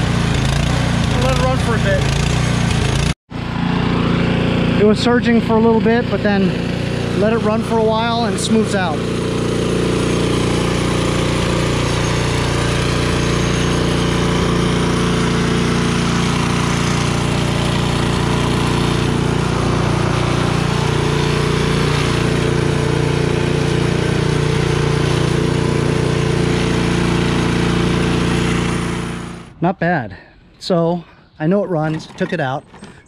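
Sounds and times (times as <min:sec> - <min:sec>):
snowblower engine running: 0:00.0 - 0:29.6.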